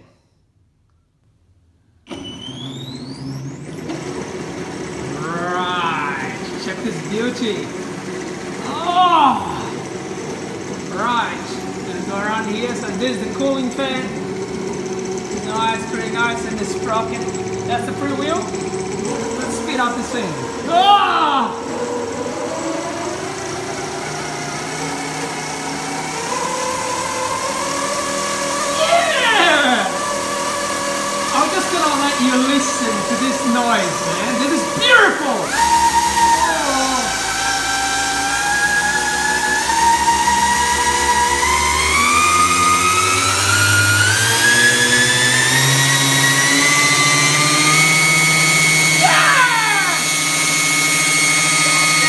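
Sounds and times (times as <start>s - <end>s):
electric motor whine: 2.1s - 52.0s.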